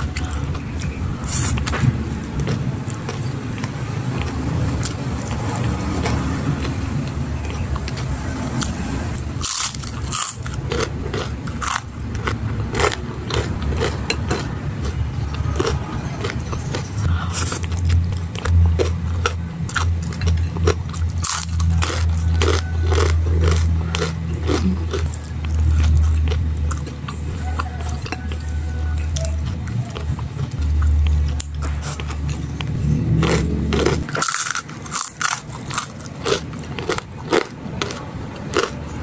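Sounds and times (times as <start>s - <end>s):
chewing and crunching food: 0.0s - 39.0s
low steady hum: 0.0s - 39.0s.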